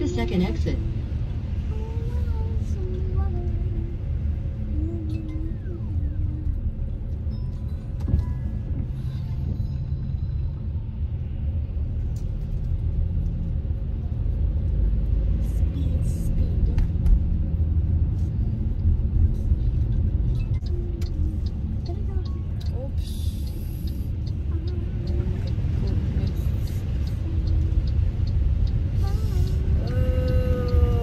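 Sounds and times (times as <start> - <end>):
car driving rumble from inside: 0.0 - 31.0.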